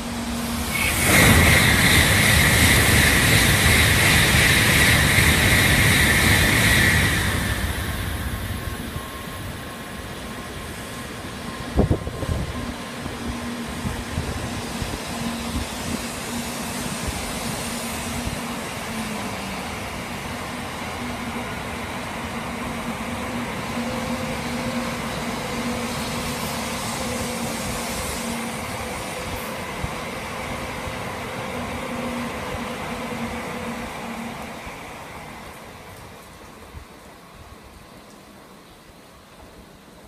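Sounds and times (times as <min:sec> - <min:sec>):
train wheels rumbling: 0:00.0 - 0:37.1.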